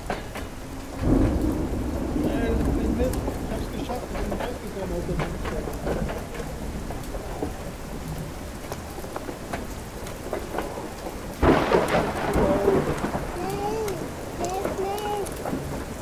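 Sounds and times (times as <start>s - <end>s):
steady rain hissing: 0.0s - 16.0s
thunderclap rumbling: 0.0s - 16.0s.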